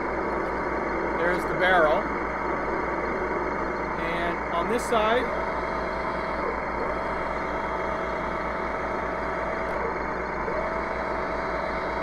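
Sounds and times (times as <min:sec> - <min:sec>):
simulated engine idle from speaker: 0:00.0 - 0:12.0
turret motor whine: 0:00.0 - 0:12.0.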